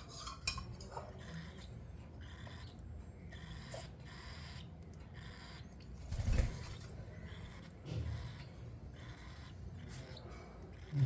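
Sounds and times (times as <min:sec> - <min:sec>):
bird chicks begging calls: 0:01.1 - 0:11.0.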